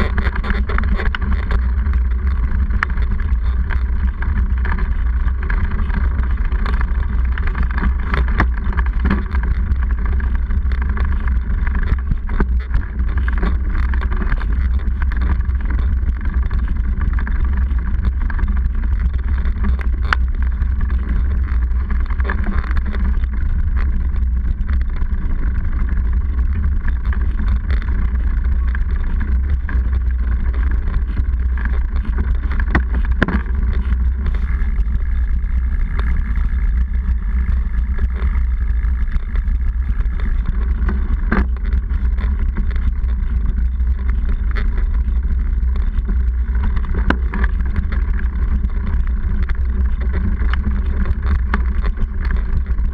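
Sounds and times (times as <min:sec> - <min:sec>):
bike frame vibration: 0:00.0 - 0:52.9
wind rumble: 0:00.0 - 0:52.9.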